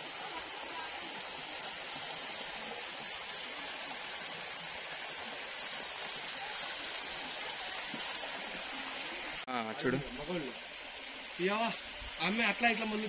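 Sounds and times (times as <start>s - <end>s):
stream rushing over stones: 0.0s - 13.0s.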